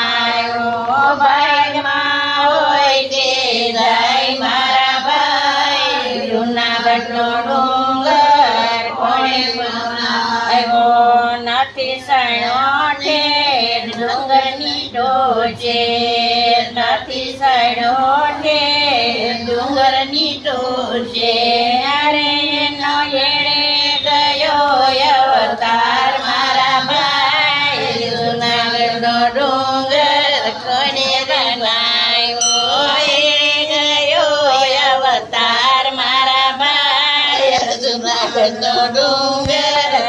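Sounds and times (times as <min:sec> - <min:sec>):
women singing folk song: 0:00.0 - 0:40.0.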